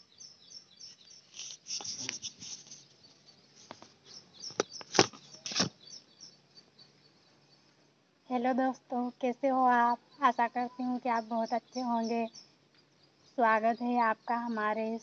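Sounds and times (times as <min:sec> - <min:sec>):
bird chirping rapidly: 0:00.0 - 0:07.6, 0:09.7 - 0:15.0.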